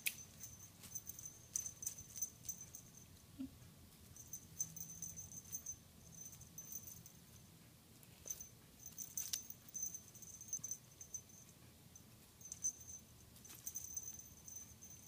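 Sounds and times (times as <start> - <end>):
high tinkle: 0.2 - 3.1, 4.2 - 7.4, 8.2 - 11.5, 12.4 - 15.0.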